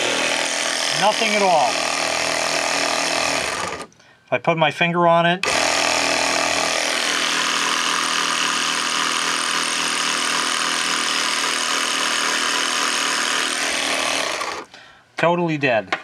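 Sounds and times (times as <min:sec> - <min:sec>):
air compressor motor running: 0:00.0 - 0:03.9, 0:05.4 - 0:14.7.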